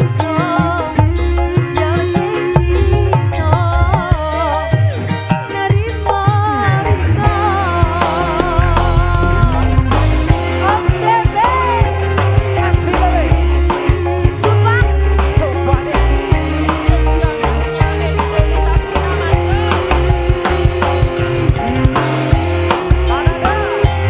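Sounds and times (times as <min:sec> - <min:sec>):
drum kit and bass beat: 0:00.0 - 0:24.0
live band playing loudly: 0:00.0 - 0:24.0
pitch-bending melody line: 0:00.0 - 0:24.0.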